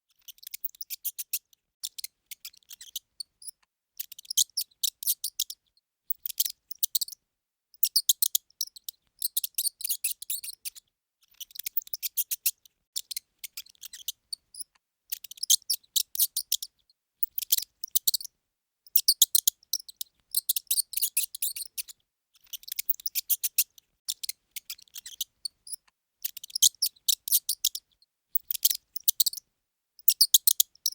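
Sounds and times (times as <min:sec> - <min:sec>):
mouse squeaking: 0:00.2 - 0:07.2, 0:07.8 - 0:18.3, 0:18.9 - 0:29.4, 0:30.0 - 0:30.9.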